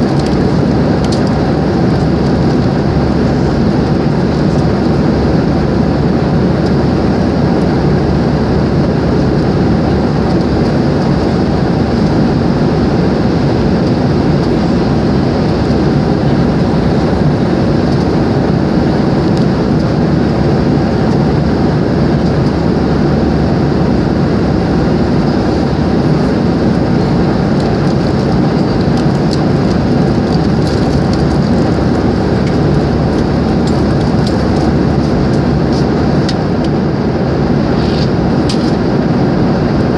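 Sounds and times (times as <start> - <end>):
airliner cabin engine and airflow noise: 0.0 - 39.9.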